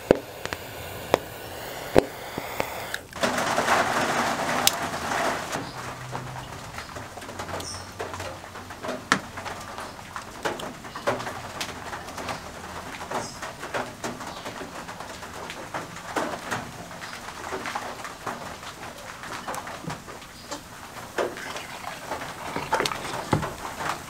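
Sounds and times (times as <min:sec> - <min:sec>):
foam bubbles crackling and popping: 0:00.0 - 0:24.0.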